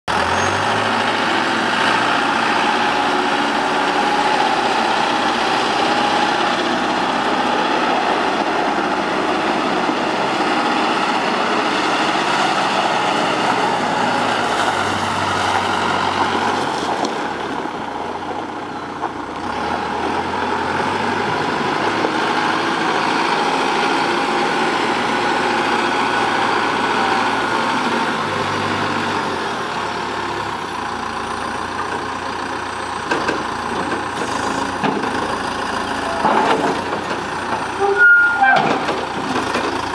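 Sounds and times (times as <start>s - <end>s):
diesel engine running: 0.1s - 39.9s.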